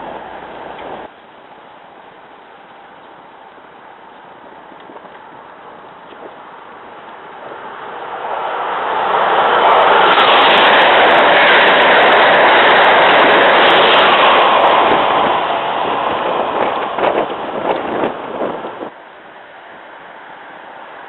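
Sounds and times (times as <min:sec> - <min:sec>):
high-speed train rushing past: 0:00.0 - 0:01.1, 0:04.8 - 0:21.0.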